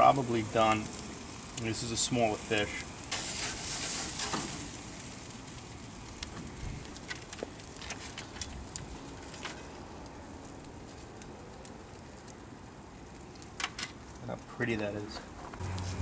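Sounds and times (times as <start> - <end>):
fish crackling on a grill: 0.0 - 16.0.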